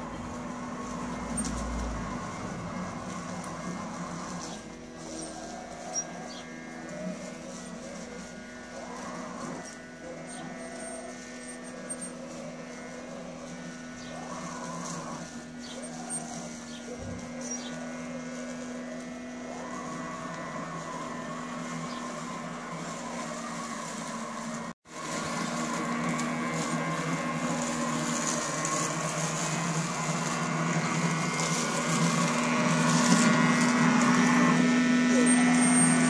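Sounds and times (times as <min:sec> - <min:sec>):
robotic lawn mower humming: 0:00.0 - 0:36.0.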